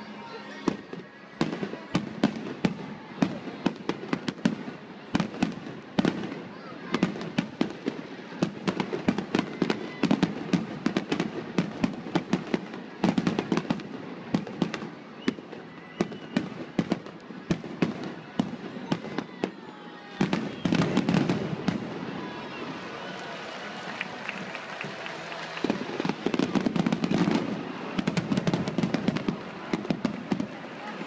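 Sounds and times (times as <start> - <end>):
fireworks bangs and crackles: 0.3 - 31.0.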